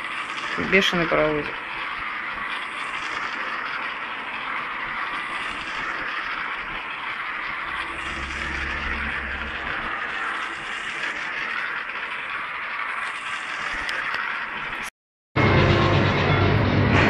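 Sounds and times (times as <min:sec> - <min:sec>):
toy train motor whirring: 0:00.0 - 0:14.9.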